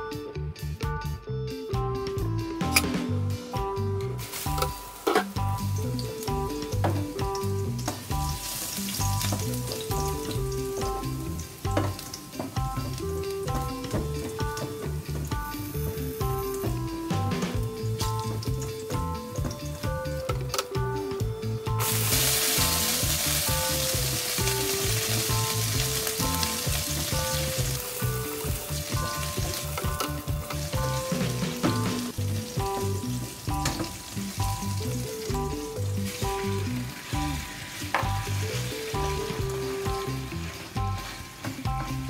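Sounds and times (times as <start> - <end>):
food sizzling in hot oil: 4.2 - 19.8, 21.8 - 42.0.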